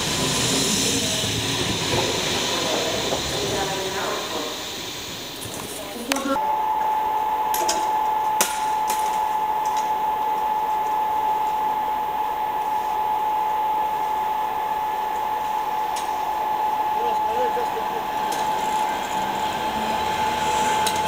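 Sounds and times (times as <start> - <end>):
blower rushing: 0.0 - 21.0
constant whine: 0.0 - 21.0.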